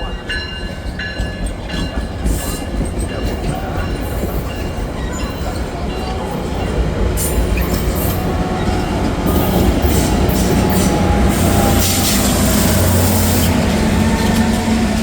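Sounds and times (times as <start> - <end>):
rushing wheel and rail noise: 0.0 - 15.0
diesel locomotive humming: 1.3 - 15.0.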